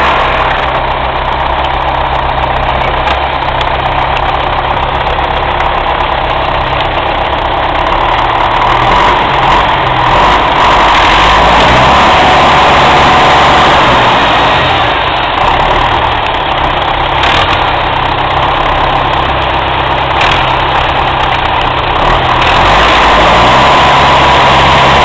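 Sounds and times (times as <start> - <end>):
diesel tractor engine running: 0.0 - 25.0.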